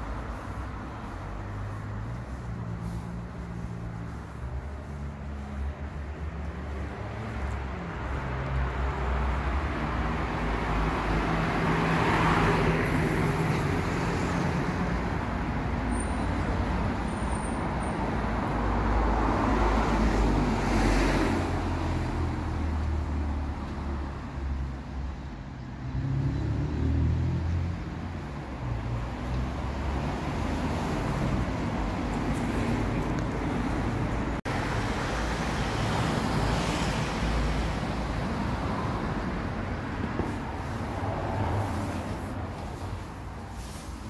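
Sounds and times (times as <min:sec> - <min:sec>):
vehicles passing: 0:00.0 - 0:44.0.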